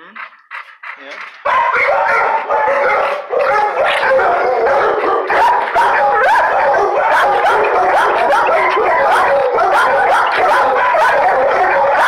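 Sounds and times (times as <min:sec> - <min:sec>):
dogs barking and yelping: 0:00.2 - 0:12.0.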